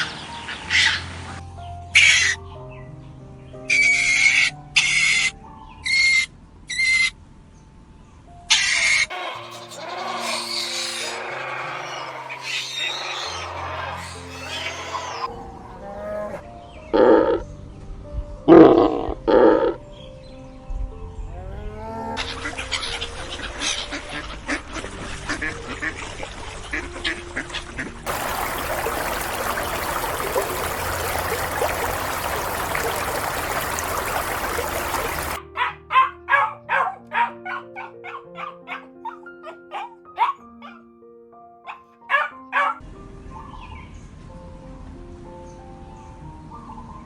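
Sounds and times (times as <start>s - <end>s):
soft piano music: 0.0s - 47.0s.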